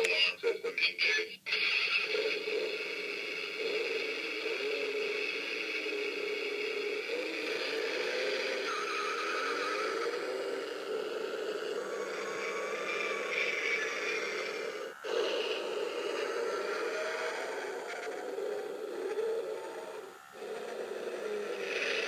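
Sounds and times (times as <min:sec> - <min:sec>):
recorded engine sound from speaker: 0:00.0 - 0:22.0.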